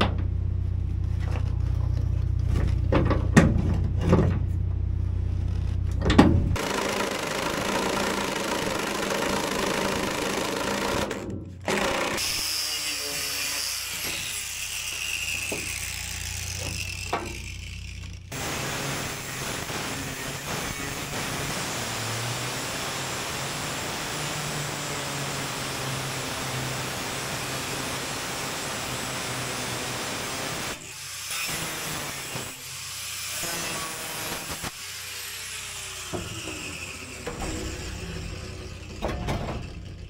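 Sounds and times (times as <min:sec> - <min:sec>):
angle grinder cutting steel: 0:06.6 - 0:40.0.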